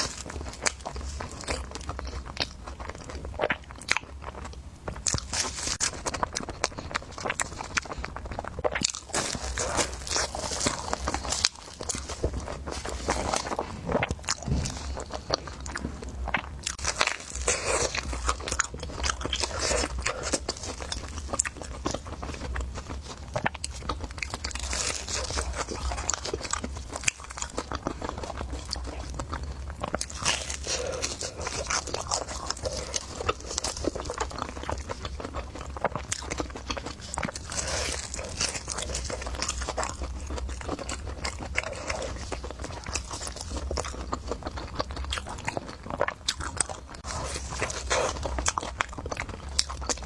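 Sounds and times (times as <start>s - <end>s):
chewing crunchy food: 0.0s - 50.0s.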